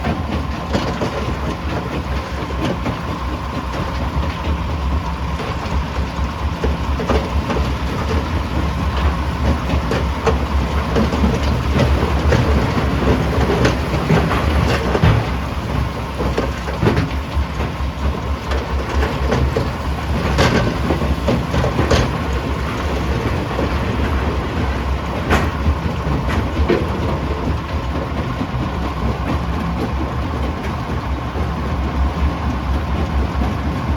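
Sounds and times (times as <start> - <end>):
jaw crusher rumbling: 0.0 - 33.9.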